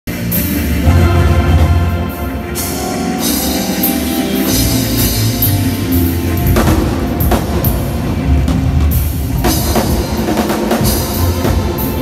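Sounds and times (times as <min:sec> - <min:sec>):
acoustic drum kit played fast: 0:00.1 - 0:12.0.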